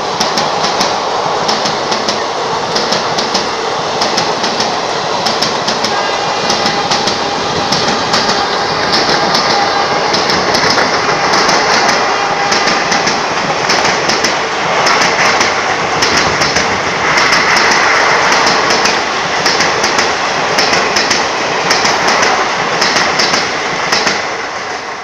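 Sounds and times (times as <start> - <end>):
train wheels rushing on rail: 0.0 - 25.0
wheels clacking over track: 2.8 - 24.2.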